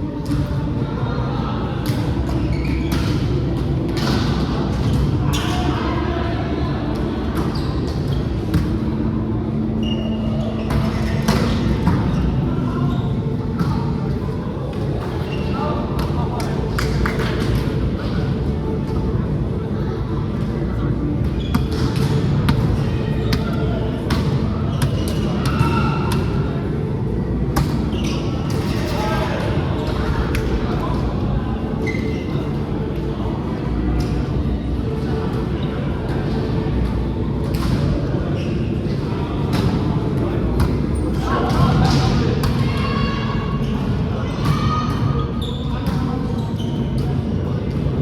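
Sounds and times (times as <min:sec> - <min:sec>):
rumble of players' voices: 0:00.0 - 0:48.0.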